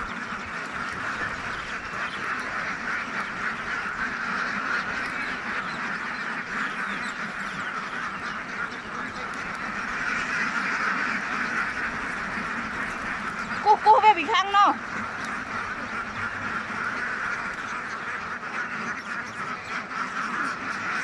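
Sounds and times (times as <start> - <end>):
flock of ducks quacking: 0.0 - 21.0.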